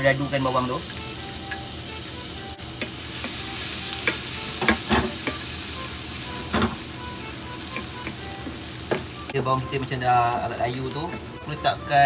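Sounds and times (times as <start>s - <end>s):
onion sizzling in butter: 0.0s - 12.0s.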